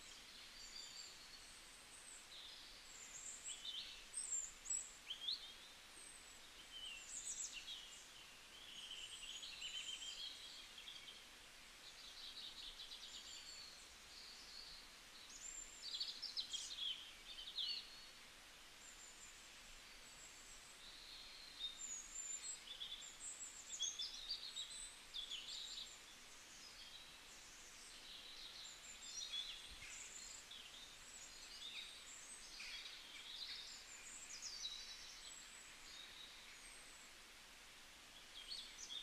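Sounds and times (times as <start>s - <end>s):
low background hiss: 0.0s - 39.0s
small birds twittering: 0.0s - 39.0s.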